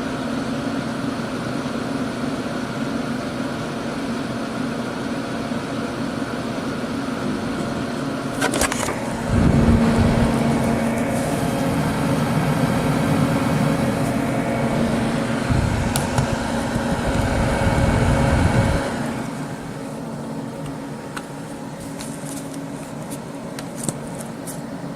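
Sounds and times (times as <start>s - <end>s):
computer whine over fan noise: 0.0s - 24.9s.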